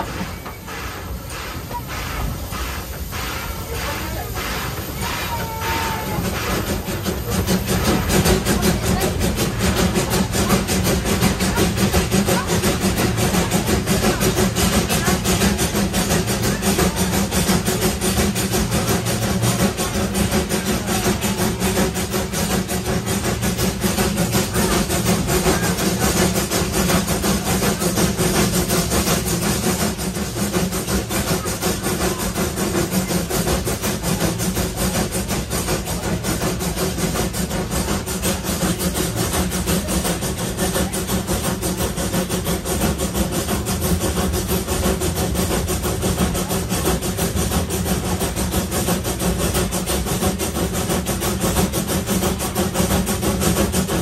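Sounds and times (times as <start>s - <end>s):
steam locomotive exhaust beats: 0.0s - 54.0s
wheels on rails: 0.0s - 54.0s.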